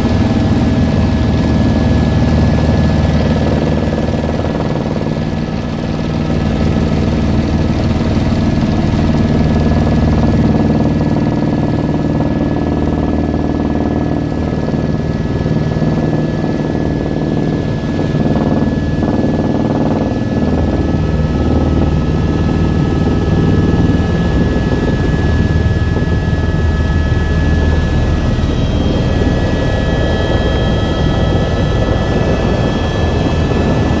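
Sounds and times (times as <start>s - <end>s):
helicopter flying: 0.0s - 34.0s.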